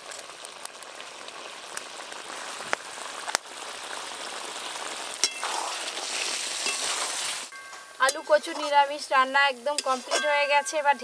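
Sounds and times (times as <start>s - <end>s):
curry simmering with crackly fizz: 0.0s - 11.0s
wood fire crackling: 0.0s - 11.0s.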